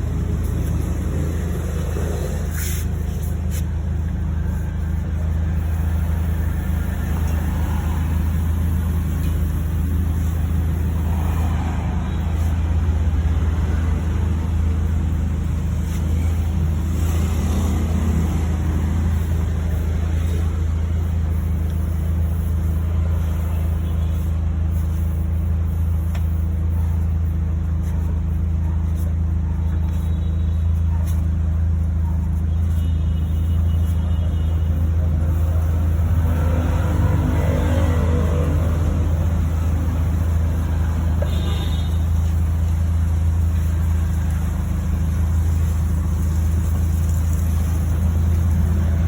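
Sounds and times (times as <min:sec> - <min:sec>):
car engine humming: 0:00.0 - 0:49.0.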